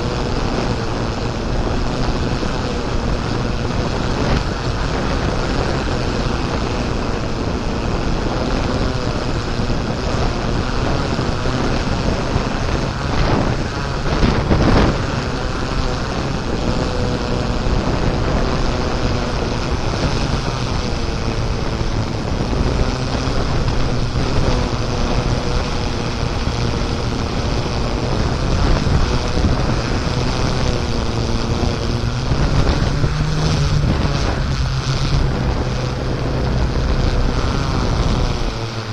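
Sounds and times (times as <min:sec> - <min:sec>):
vehicle engine running: 0:00.0 - 0:38.9
wind noise on microphone: 0:00.0 - 0:38.9.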